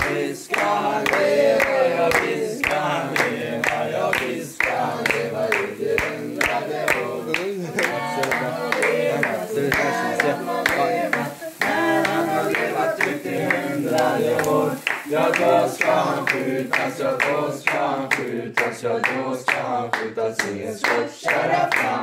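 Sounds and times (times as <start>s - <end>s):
group singing: 0.0s - 22.0s
people clapping: 0.0s - 22.0s.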